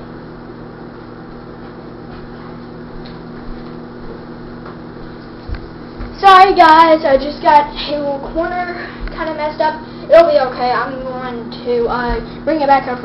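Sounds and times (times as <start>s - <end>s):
room tone hum: 0.0s - 13.0s.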